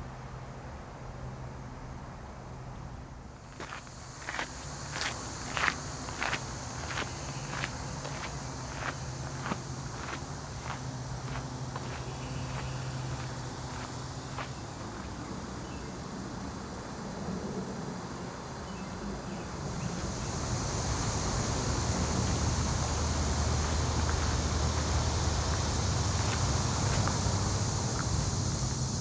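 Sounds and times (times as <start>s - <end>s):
distant road traffic rumble: 0.1s - 29.0s
steady high hiss: 2.8s - 29.0s.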